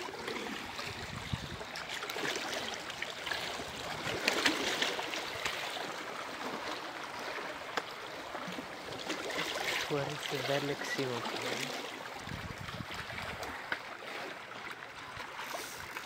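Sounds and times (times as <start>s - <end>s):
waves splashing against rocks: 0.0s - 16.0s.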